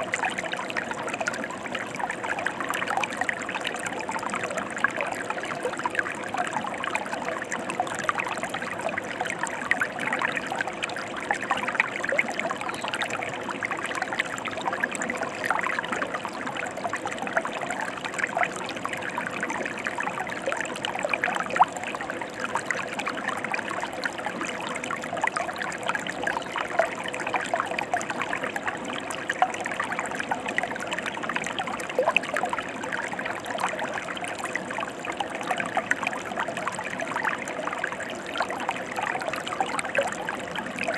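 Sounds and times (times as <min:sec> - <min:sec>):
stream flowing with splashes: 0:00.0 - 0:40.9.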